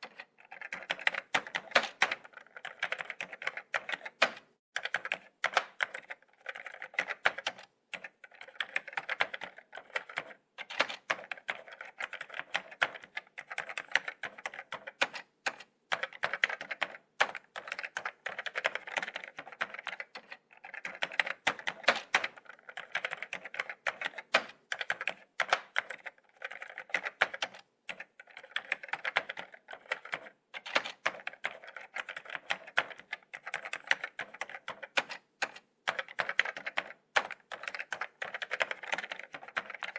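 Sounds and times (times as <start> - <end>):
laptop keyboard typing: 0.0 - 39.9.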